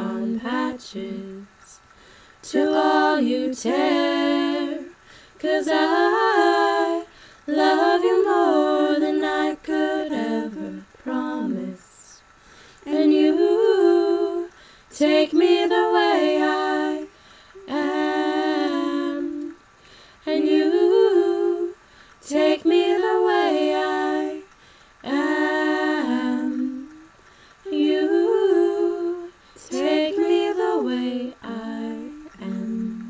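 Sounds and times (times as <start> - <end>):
girls singing a cappella: 0.0 - 33.0.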